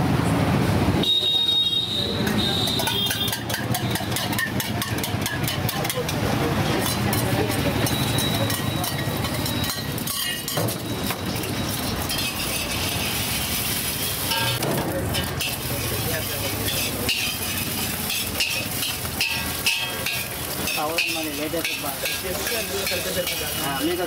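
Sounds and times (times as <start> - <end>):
metal spatula scraping wok: 2.2 - 24.0
spatula clinking against wok: 2.2 - 24.0
egg sizzling in hot oil: 2.9 - 5.8, 6.8 - 24.0.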